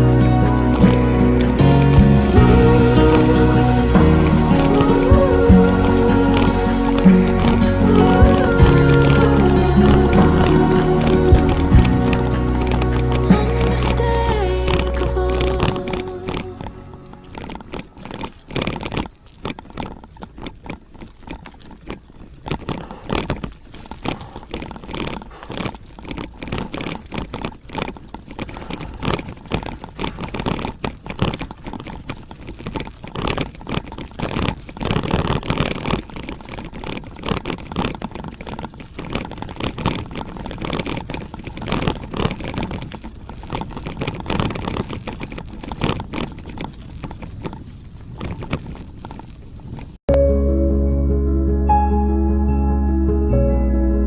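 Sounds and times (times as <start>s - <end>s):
crunching over gravel road: 0.0s - 50.1s.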